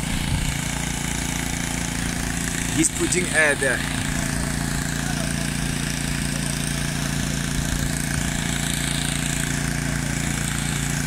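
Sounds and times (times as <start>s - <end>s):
air compressor pulsing hum: 0.0s - 11.0s.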